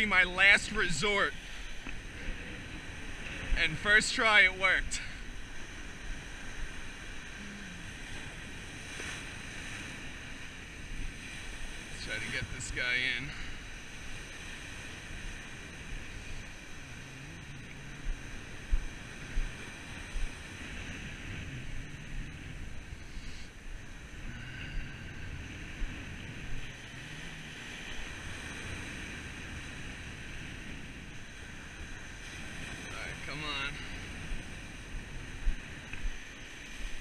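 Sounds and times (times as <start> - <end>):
ocean surf breaking: 0.0 - 37.0
wind buffeting microphone: 0.0 - 37.0.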